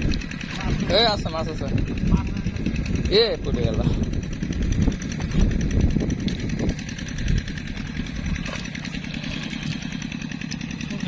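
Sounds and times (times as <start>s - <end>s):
rough low engine rumble: 0.0s - 11.0s
small engine running: 0.0s - 11.0s.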